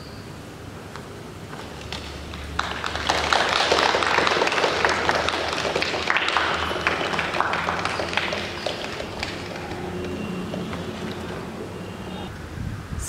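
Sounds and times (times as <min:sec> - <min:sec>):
crowd applauding: 0:01.5 - 0:12.3.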